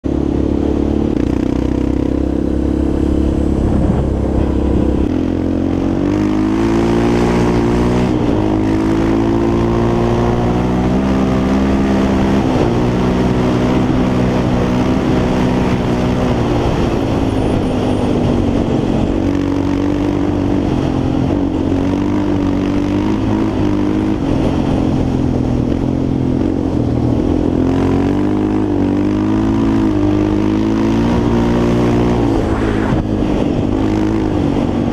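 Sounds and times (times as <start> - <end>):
quad engine revving: 0.1 - 34.9.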